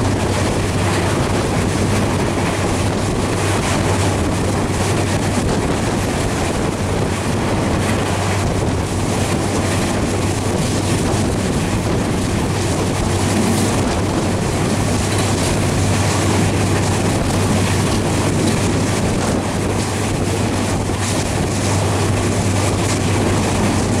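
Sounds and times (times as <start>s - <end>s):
constant low hum: 0.0s - 24.0s
train wheels rumbling: 0.0s - 24.0s
wind buffeting microphone: 0.0s - 24.0s.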